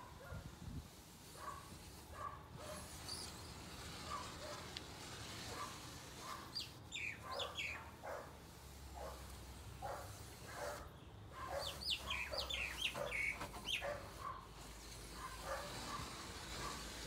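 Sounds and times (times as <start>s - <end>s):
birds calling faintly: 1.3s - 16.8s.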